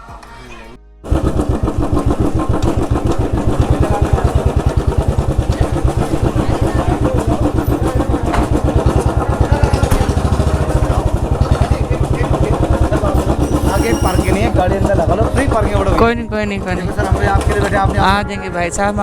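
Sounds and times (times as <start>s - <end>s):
motorcycle engine running: 1.0s - 19.0s.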